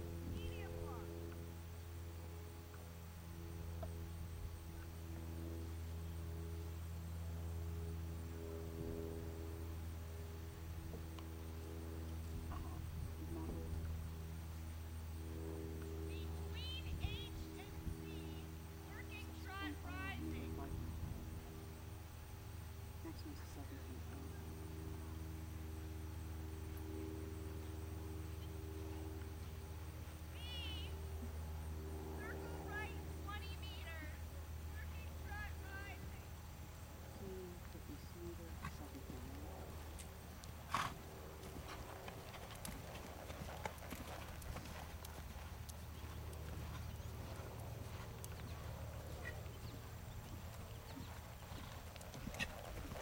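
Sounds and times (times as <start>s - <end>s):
faint steady tones: 0.0s - 53.0s
steady low hum: 0.0s - 53.0s.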